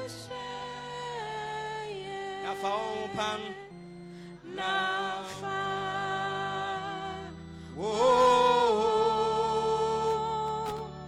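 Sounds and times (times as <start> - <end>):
slow hymn singing: 0.0 - 11.0.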